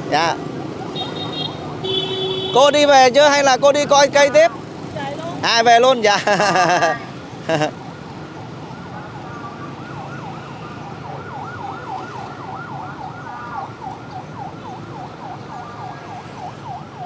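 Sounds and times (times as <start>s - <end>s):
emergency vehicle siren: 0.0s - 4.7s, 7.5s - 17.0s
road traffic hum: 0.0s - 17.0s.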